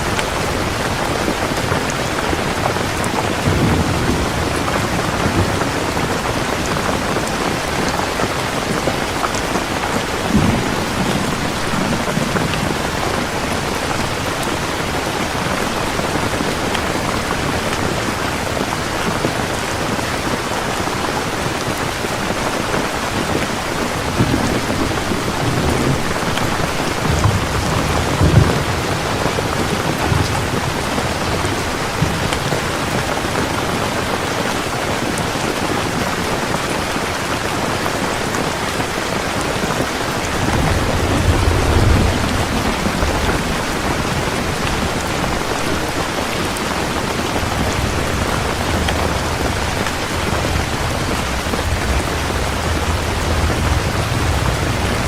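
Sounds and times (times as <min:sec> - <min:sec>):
low rumbles of thunder: 0:00.0 - 0:21.0, 0:21.7 - 0:34.1, 0:39.7 - 0:55.0
heavy rain falling: 0:00.0 - 0:55.0.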